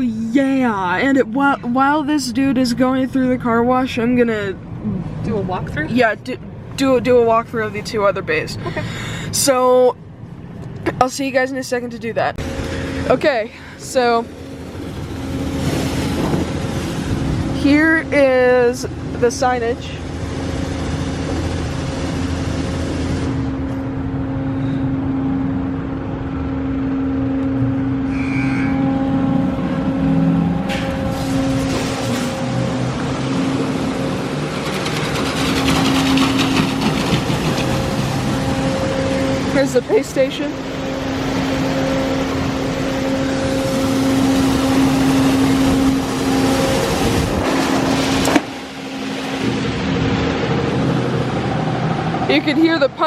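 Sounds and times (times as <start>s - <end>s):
car wash motor humming: 0.0s - 53.0s.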